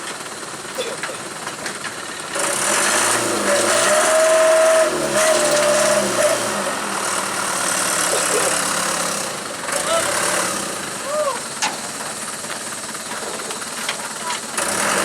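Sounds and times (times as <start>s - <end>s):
motor vehicle engine running: 0.0s - 15.0s.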